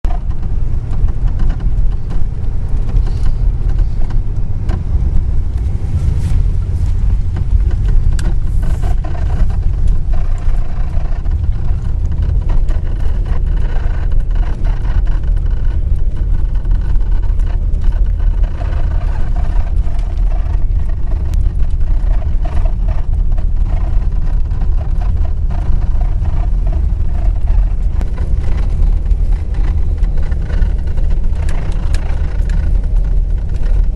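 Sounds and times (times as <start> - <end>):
car road and engine rumble: 0.0 - 33.9
car body creaks and squeaks: 0.1 - 33.9.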